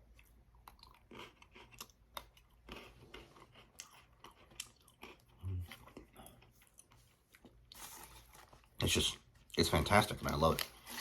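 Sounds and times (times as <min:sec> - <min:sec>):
chewing crunchy biscuit: 0:00.0 - 0:11.0.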